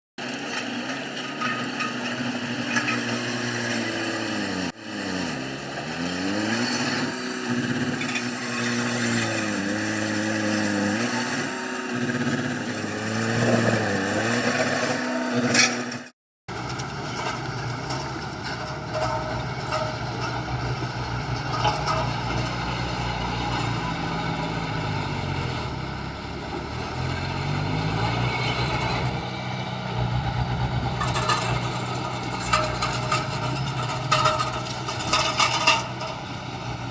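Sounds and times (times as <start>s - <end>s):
heavy diesel engine running: 0.2s - 36.9s.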